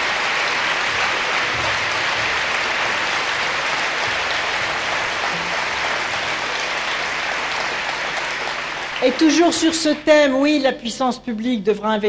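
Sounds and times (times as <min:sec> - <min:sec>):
large crowd applauding: 0:00.0 - 0:10.4.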